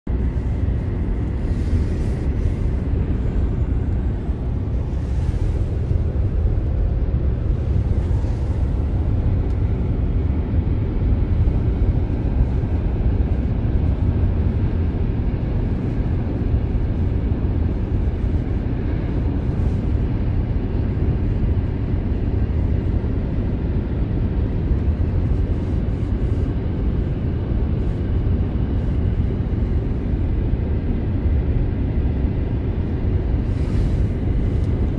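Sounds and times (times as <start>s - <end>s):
wind noise inside car: 0.0s - 34.9s.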